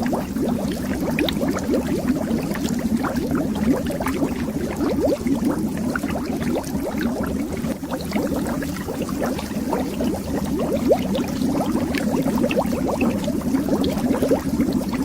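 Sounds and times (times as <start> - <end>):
bubbles underwater: 0.0 - 15.0.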